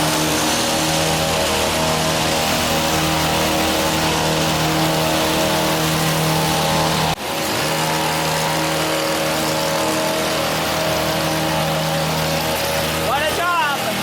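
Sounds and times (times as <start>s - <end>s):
hedge trimmer engine running: 0.0s - 14.0s.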